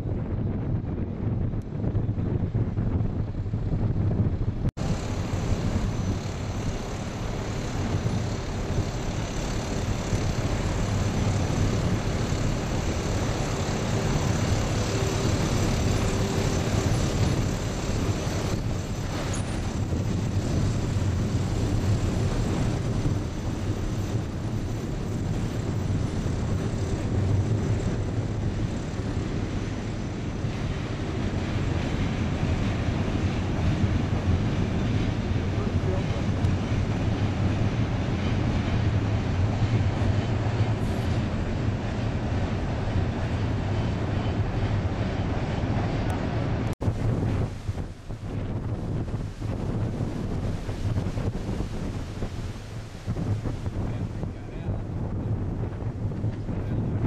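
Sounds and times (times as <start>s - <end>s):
low steady drone: 0.0s - 57.0s
wind buffeting microphone: 0.0s - 57.0s.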